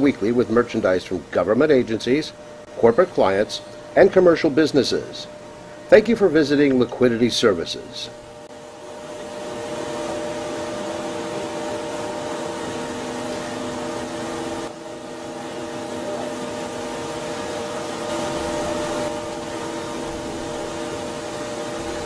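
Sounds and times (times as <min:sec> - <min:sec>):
machining center running: 0:00.0 - 0:22.0.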